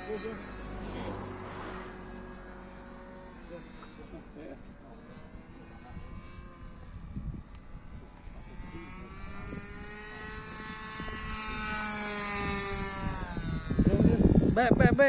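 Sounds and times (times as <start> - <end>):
model airplane engine buzzing: 0.0 - 15.0.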